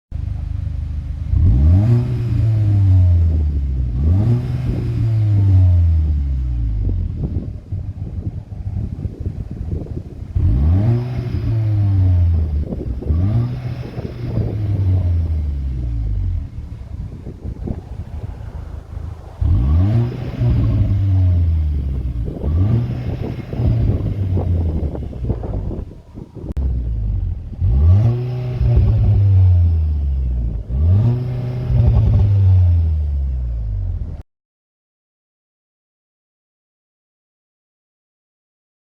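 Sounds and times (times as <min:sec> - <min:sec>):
car engine idling and revving: 0:00.1 - 0:34.2.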